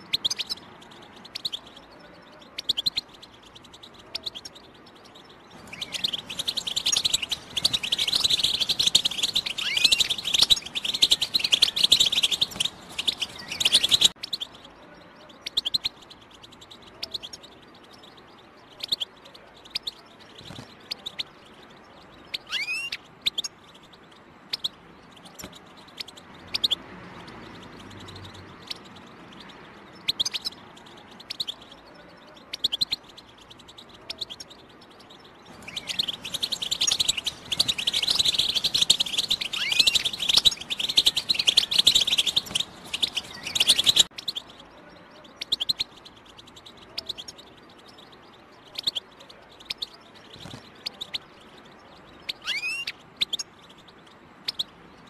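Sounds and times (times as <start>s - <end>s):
bird chirping and twittering: 0.0s - 55.0s.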